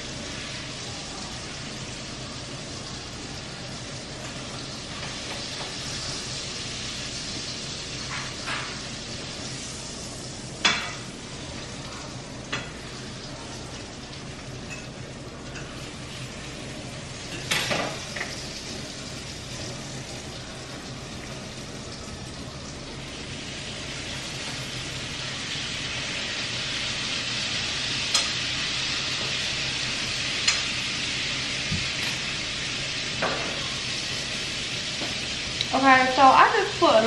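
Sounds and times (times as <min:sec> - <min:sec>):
steak sizzling in a pan: 0:00.0 - 0:37.0.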